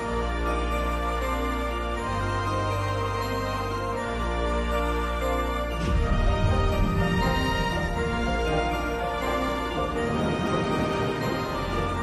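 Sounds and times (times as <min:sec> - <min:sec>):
theme music with sustained chords: 0:00.0 - 0:12.0.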